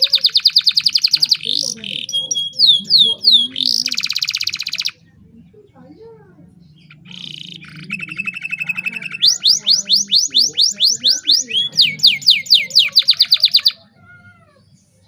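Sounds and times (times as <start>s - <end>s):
canary singing trills and whistles: 0.0s - 5.1s, 6.5s - 13.9s.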